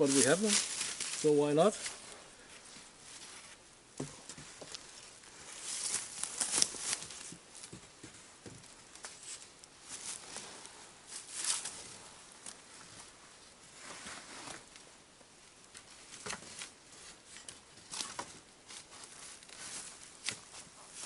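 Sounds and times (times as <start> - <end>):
wood rustling and scraping: 0.0 - 14.9, 15.7 - 21.0.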